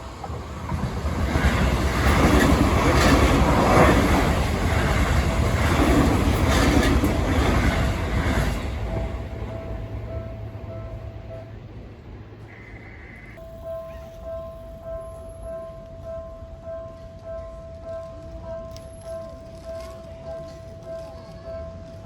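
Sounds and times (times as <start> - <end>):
level crossing warning bell: 0.0 - 12.0, 13.4 - 22.0
train rumbling past: 0.0 - 22.0.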